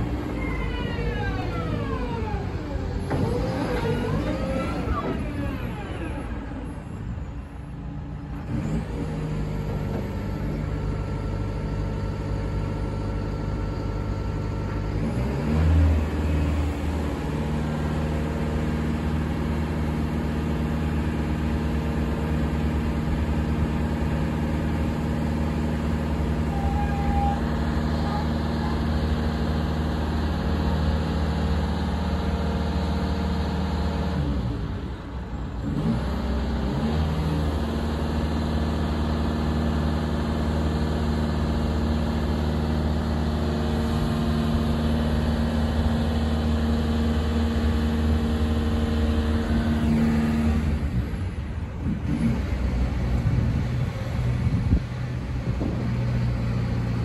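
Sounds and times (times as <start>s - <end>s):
diesel engine running and revving: 0.0s - 57.0s.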